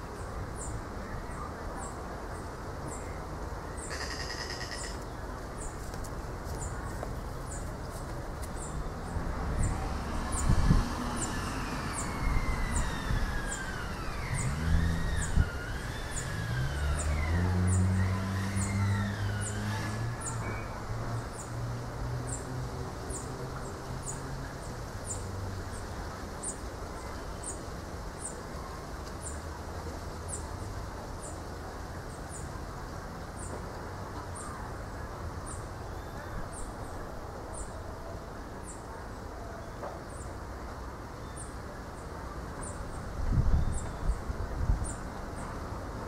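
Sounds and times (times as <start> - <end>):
wind rustling palm leaves: 0.0 - 46.0.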